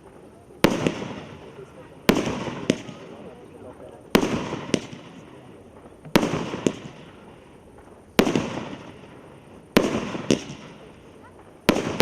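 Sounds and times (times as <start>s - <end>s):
fireworks battery shots: 0.0s - 12.0s.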